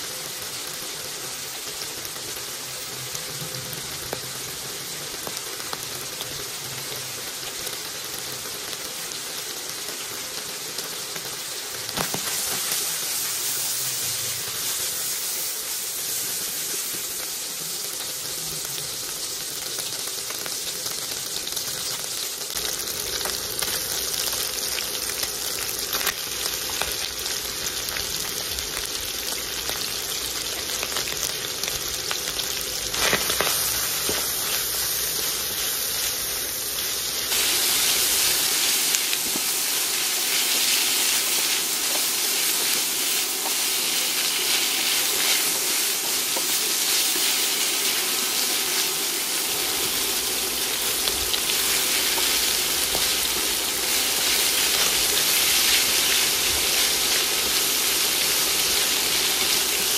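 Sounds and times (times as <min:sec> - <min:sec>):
meat and onion sizzling in a wok: 0:00.0 - 0:59.9.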